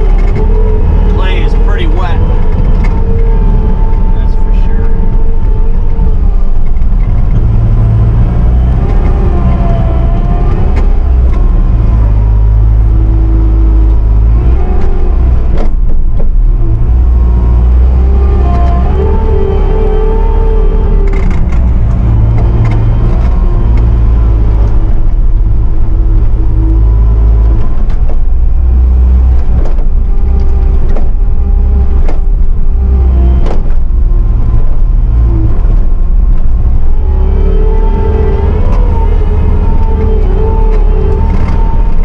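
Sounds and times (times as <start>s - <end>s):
diesel engine rumbling: 0.0s - 42.0s.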